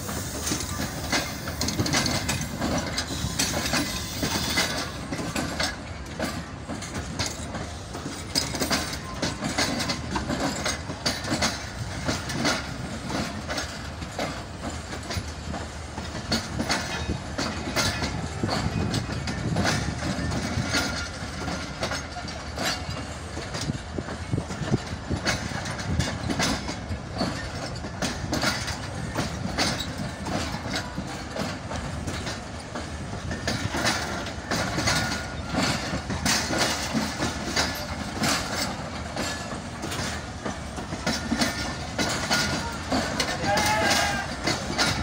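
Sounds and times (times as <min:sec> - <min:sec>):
train carriages rumbling past: 0:00.0 - 0:45.0
wheels clacking over rail joints: 0:00.0 - 0:45.0.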